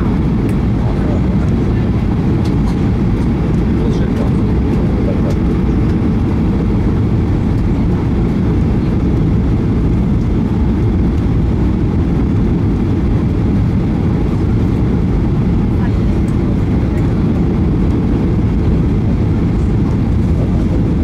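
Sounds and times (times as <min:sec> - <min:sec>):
jet engines roar in cabin: 0:00.0 - 0:21.0
rushing airflow: 0:00.0 - 0:21.0.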